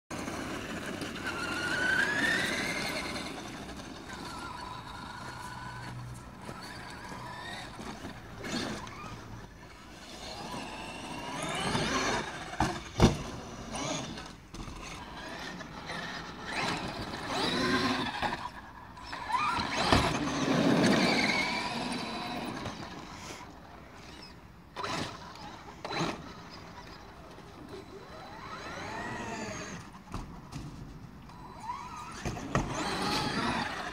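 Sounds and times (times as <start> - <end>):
electric motor whining: 0.1 - 30.0, 31.3 - 33.9.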